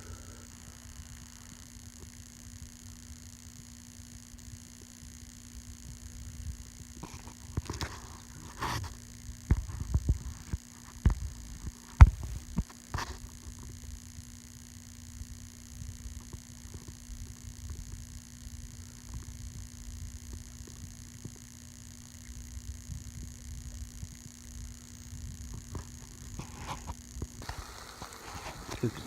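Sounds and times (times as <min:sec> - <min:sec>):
faint electrical hum: 0:00.0 - 0:29.0.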